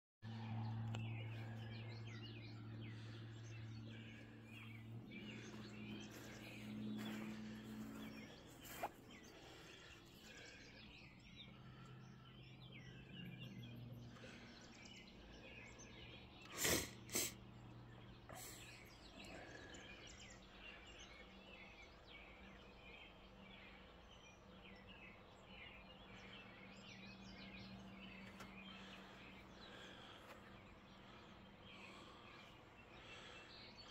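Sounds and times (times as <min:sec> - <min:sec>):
low steady hum: 0:00.3 - 0:33.9
small birds chirping: 0:00.3 - 0:33.9.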